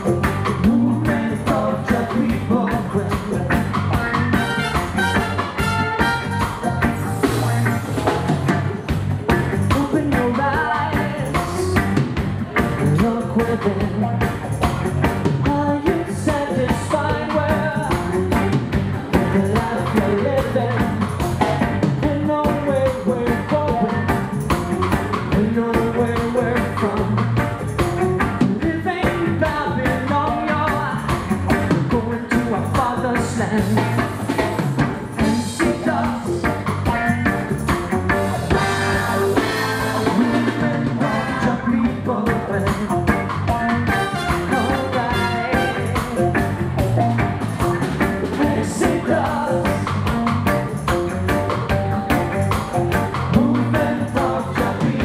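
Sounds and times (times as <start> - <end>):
band music with singing: 0.0 - 55.0
steady drum beat: 0.0 - 55.0.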